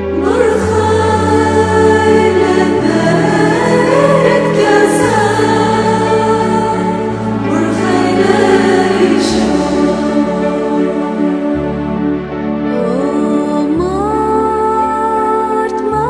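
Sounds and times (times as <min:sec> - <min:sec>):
held bass notes: 0:00.0 - 0:13.1
choir singing sustained chords: 0:00.0 - 0:16.0.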